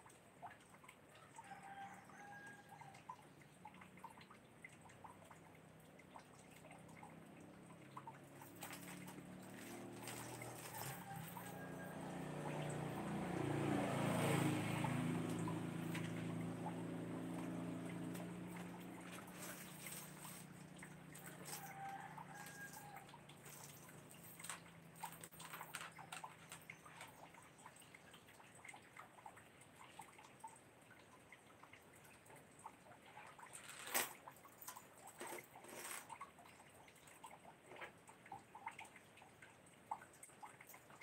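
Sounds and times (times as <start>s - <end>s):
water drips: 0.0s - 41.0s.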